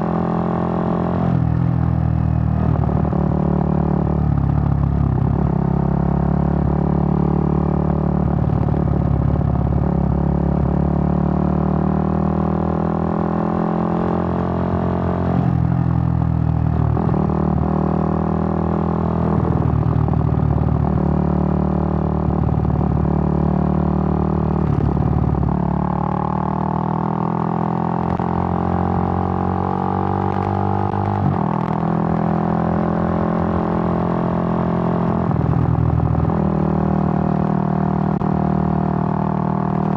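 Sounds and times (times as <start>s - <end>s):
motorcycle engine running: 0.0s - 11.1s, 11.7s - 39.9s.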